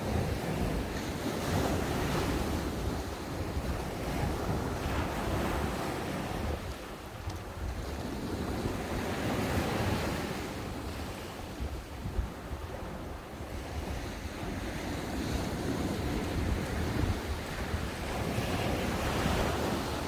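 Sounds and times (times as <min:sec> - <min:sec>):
ocean waves breaking on sand: 0:00.0 - 0:20.0
wind buffeting microphone: 0:00.0 - 0:20.0.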